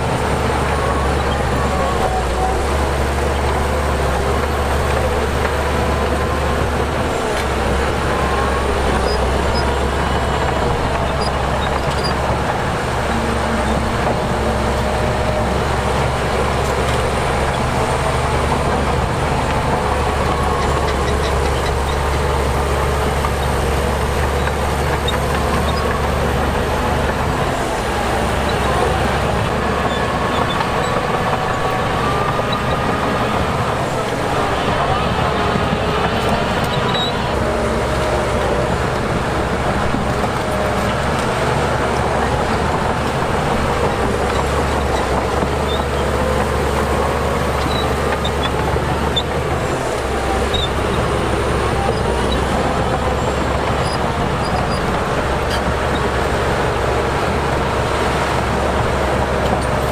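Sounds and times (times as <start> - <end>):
heavy diesel machinery rumbling: 0.0 - 59.9.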